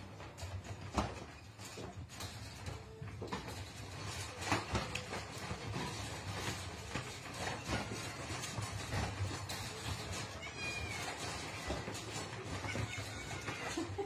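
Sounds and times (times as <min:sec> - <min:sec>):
wire pet crate rattling: 0:00.0 - 0:14.0.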